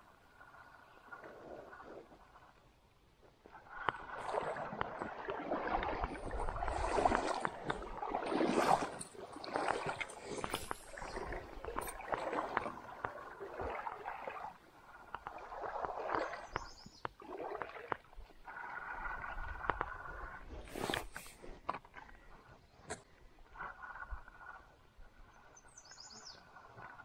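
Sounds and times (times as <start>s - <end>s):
water sloshing and gurgling: 0.0s - 27.0s.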